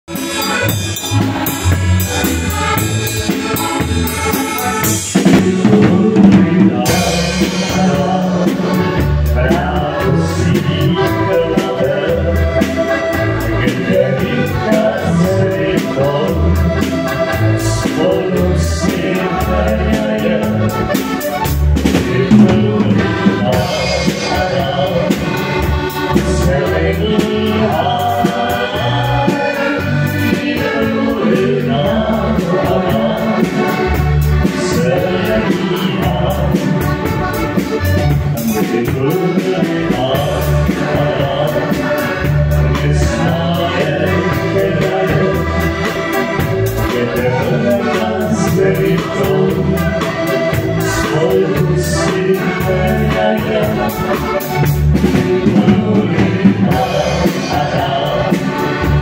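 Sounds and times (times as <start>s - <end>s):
button accordion: 0.1s - 59.0s
drum kit and cymbals: 0.1s - 59.0s
person singing: 2.0s - 59.0s.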